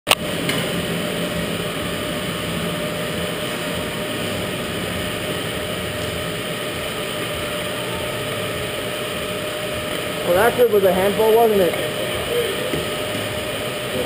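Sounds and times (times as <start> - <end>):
machine hum and hiss: 0.1 - 14.0.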